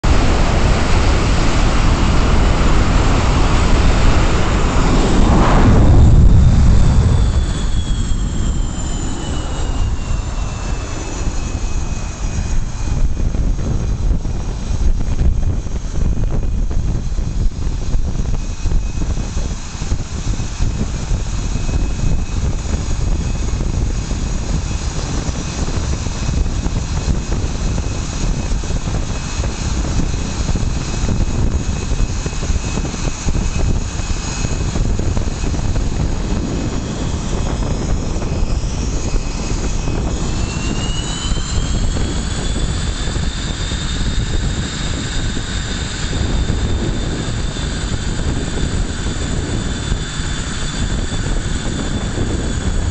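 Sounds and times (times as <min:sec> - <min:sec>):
high turbine whine: 0:00.0 - 0:52.9
jet engines rumbling: 0:00.0 - 0:52.9.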